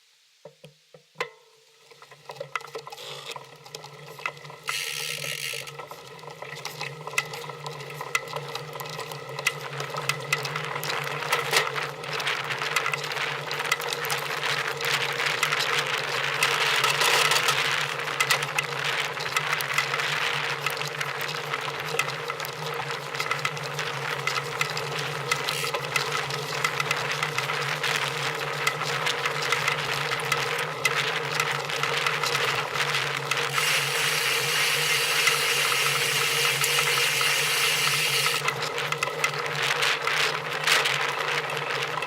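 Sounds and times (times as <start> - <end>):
small machine humming and rattling: 2.1 - 42.0.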